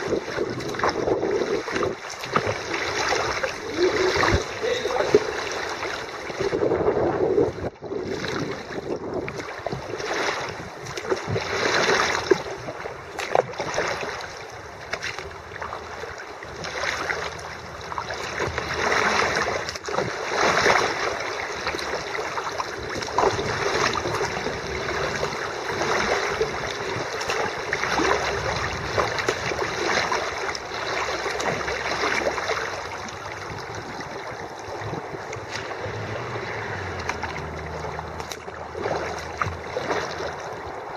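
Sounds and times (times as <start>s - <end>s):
water splashing around a kayak: 0.0s - 40.9s.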